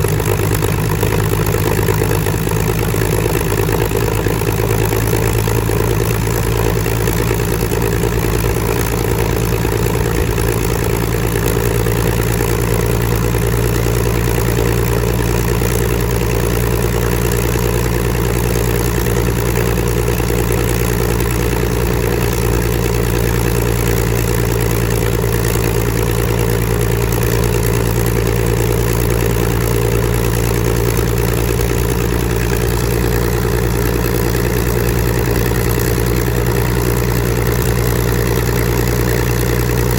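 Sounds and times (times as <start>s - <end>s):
aircraft engine running steadily: 0.0s - 39.9s.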